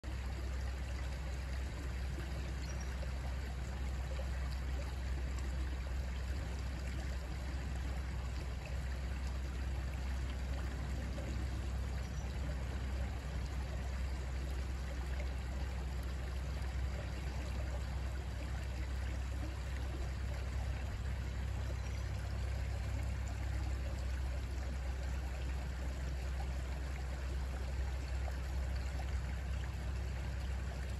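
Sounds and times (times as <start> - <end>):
creek flowing over rocks: 0.0 - 30.9.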